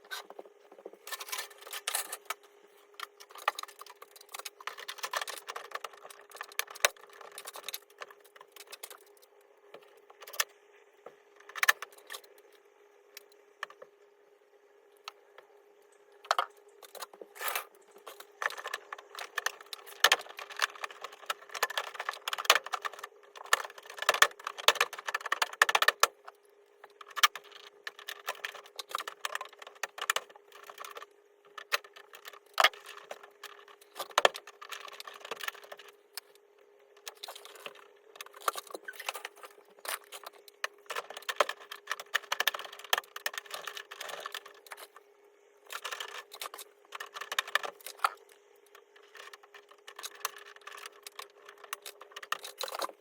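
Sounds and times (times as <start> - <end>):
faint steady hum: 0.0 - 53.0
hard parts clicking and rattling: 0.1 - 10.5, 16.2 - 45.0, 45.7 - 53.0.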